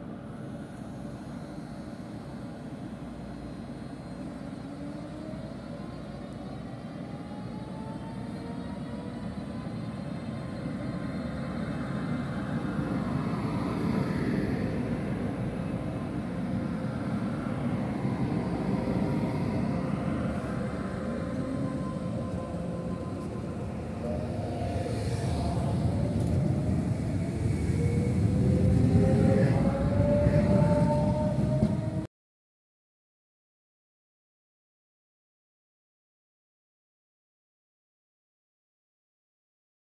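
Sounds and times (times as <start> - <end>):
train cars running past: 0.0 - 32.1.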